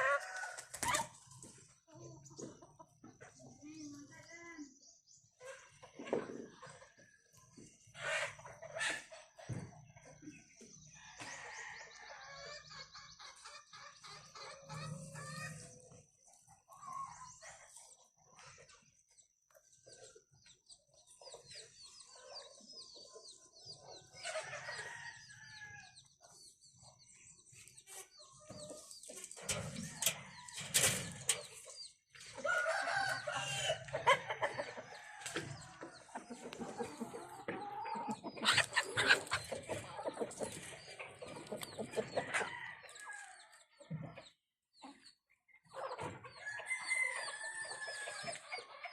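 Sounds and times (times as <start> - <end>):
chickens clucking: 0.0 - 4.3, 5.2 - 48.9.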